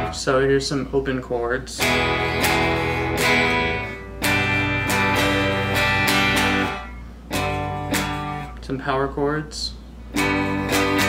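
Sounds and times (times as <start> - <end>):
electric guitar chords strummed: 0.0 - 8.6, 10.1 - 11.0.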